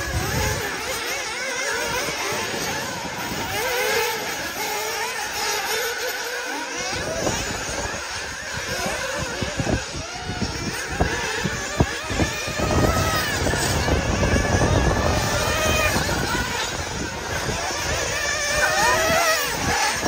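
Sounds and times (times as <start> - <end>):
rc buggy engines revving: 0.0 - 20.0.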